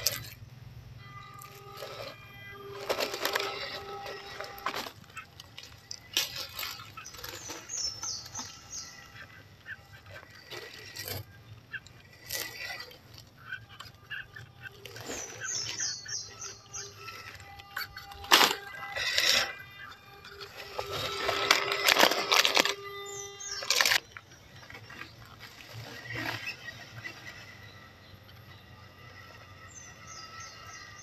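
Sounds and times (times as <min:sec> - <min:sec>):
bird calling: 0:00.0 - 0:31.0
tyres crackling over dry leaves: 0:01.0 - 0:31.0.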